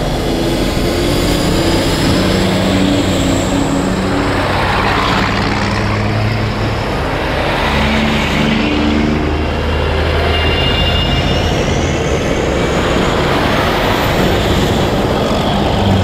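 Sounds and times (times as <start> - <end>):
truck diesel engines passing: 0.0 - 16.0.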